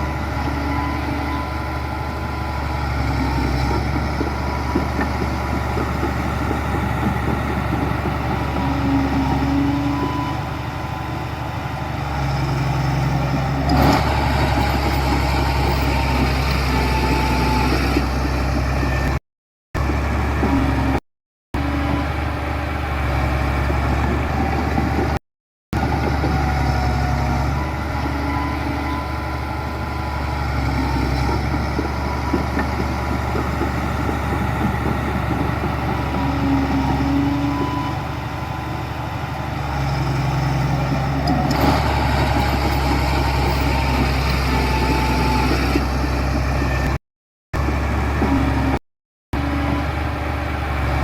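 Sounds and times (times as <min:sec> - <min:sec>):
heavy machinery engines humming: 0:00.0 - 0:19.2, 0:25.8 - 0:47.0, 0:49.4 - 0:51.0.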